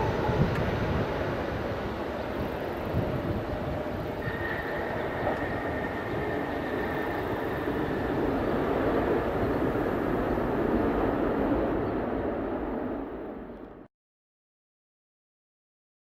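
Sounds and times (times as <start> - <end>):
faint high whine: 0.0 - 13.9
jet engines rushing: 0.0 - 13.9.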